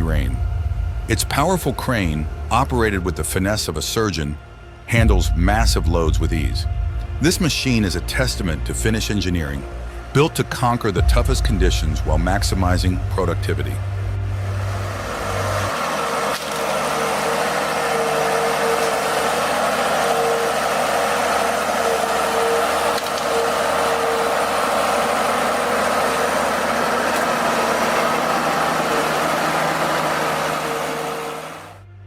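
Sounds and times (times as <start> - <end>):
diesel engine running under load: 0.0 - 32.0
steady whine: 0.0 - 32.0.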